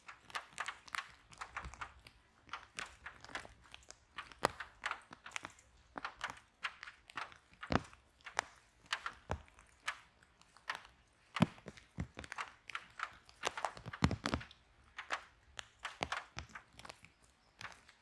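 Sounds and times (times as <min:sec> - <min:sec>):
wood fire crackling: 0:00.1 - 0:16.7.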